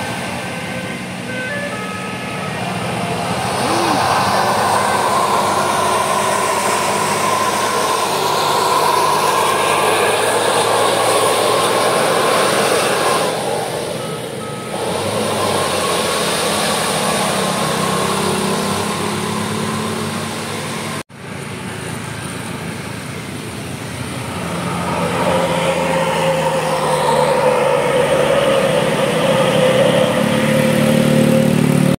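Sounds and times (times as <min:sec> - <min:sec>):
coach diesel engine under load: 0:00.0 - 0:32.0
passing cars and motorcycles: 0:00.0 - 0:32.0.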